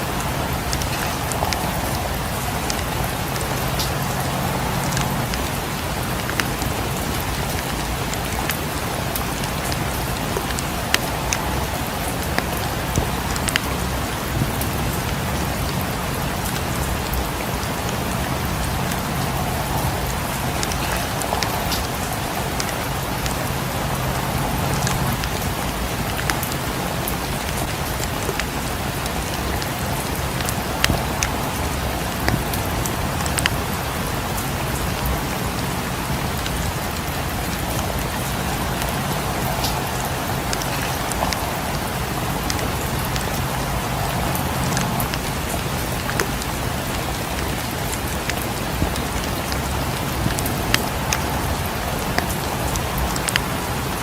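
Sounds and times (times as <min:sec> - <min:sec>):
rain against windows: 0:00.0 - 0:54.0.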